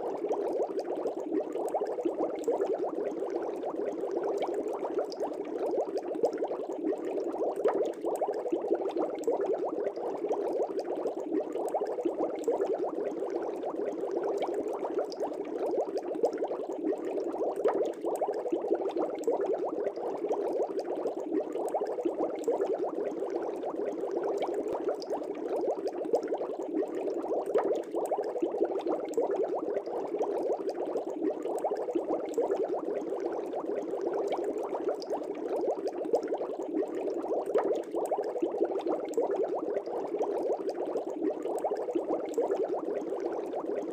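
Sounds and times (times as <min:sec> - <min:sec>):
aquarium air bubbling: 0:00.0 - 0:43.9.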